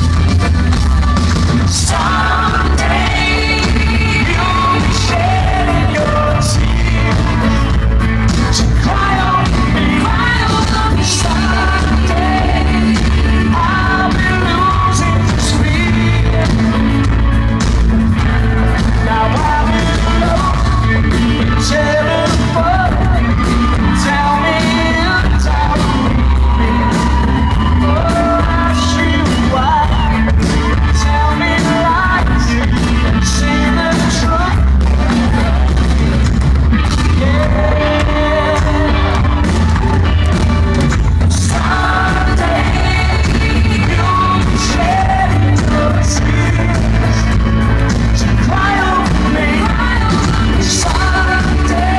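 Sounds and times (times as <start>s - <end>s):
bass guitar: 0.0s - 51.9s
drum kit beat: 0.0s - 51.9s
electric guitar: 0.0s - 51.9s
man singing lead: 0.0s - 51.9s.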